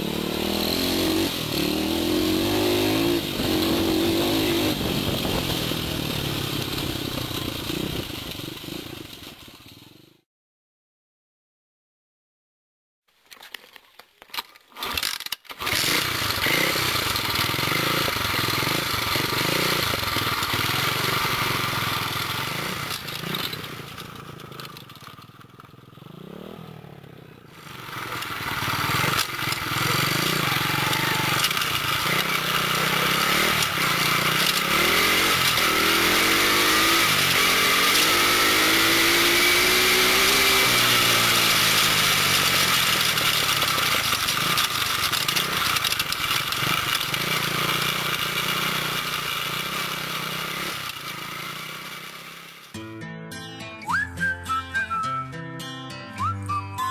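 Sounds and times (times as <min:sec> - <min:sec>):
motorbike engine running and revving: 0:00.0 - 0:10.2, 0:14.8 - 0:52.7.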